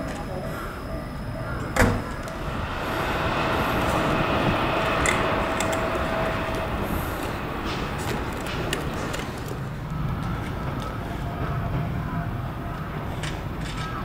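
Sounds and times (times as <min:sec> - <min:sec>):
faint steady hum: 0:00.0 - 0:14.0
train rushing: 0:00.0 - 0:14.0.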